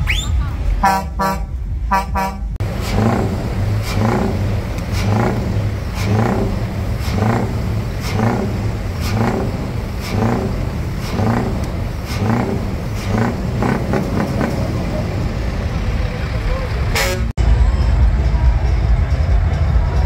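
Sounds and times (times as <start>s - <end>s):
diesel truck engine revving: 0.0s - 20.0s.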